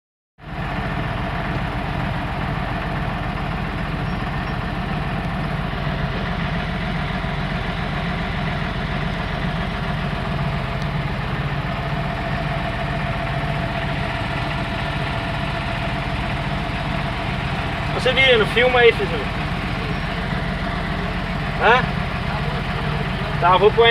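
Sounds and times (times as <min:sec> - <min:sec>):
vehicle engine idling: 0:00.4 - 0:23.9.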